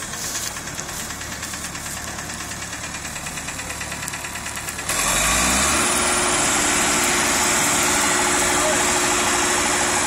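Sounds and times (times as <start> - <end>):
combine harvester diesel engine: 0.0 - 10.0.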